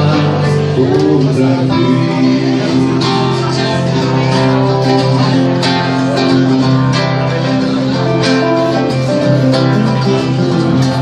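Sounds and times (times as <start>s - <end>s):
instrumental guitar music: 0.0s - 11.0s.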